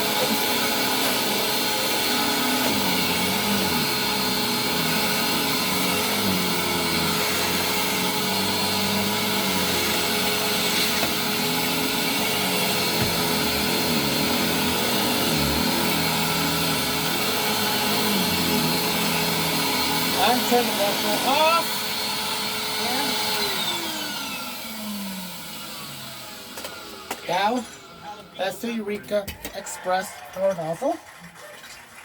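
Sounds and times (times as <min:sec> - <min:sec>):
nozzle humming over carpet: 0:00.0 - 0:27.6
vacuum cleaner running: 0:00.0 - 0:28.7.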